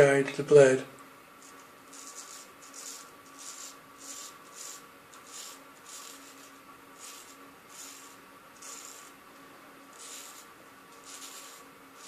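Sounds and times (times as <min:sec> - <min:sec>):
razor scraping stubble: 0:01.4 - 0:09.2, 0:09.9 - 0:12.0.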